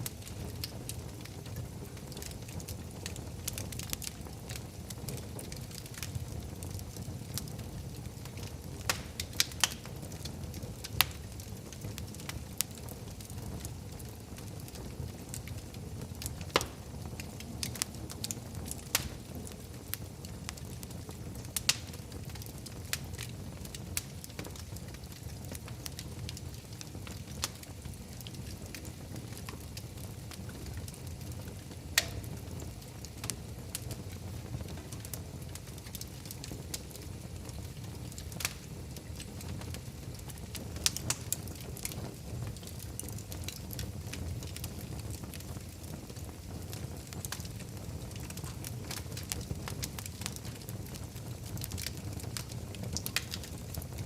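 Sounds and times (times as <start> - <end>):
fire crackling and popping: 0.0 - 54.0
fire low rumble: 0.0 - 54.0.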